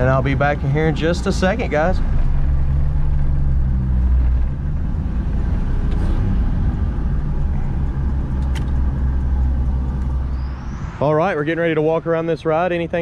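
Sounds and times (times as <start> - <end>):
truck engine running slowly: 0.0 - 10.7.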